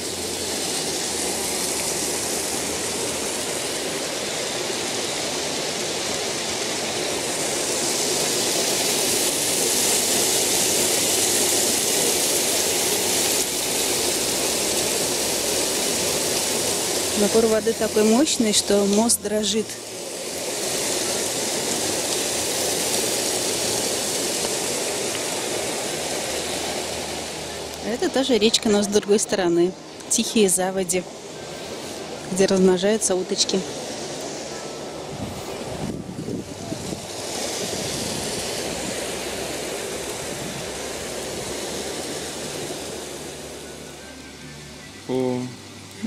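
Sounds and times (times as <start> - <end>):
small waterfall rushing: 0.0 - 46.0.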